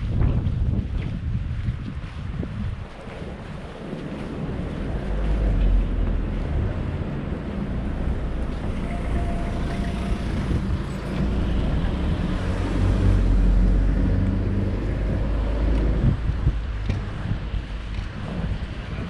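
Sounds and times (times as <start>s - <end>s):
vehicle engine rumbling: 0.0s - 19.0s
wind buffeting microphone: 0.0s - 19.0s.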